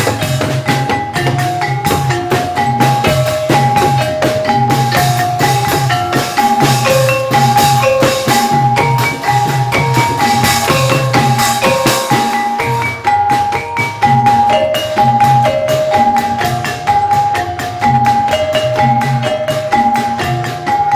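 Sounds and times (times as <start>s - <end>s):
struck pitched percussion melody: 0.0s - 20.9s.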